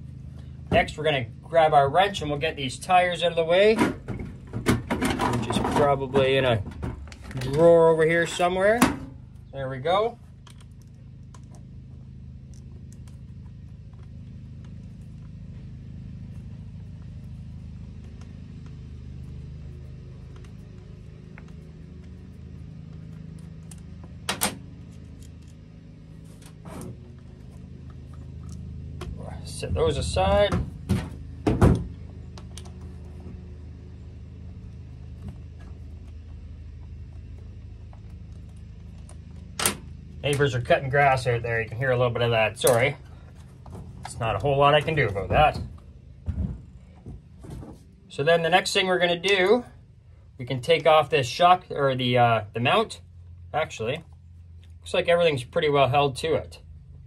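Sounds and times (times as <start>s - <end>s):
lawn mower engine droning: 0.0s - 57.0s.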